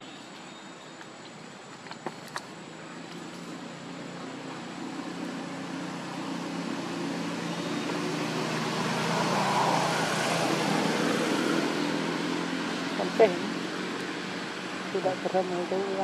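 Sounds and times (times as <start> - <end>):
vehicle engine passing by: 3.0 - 16.0.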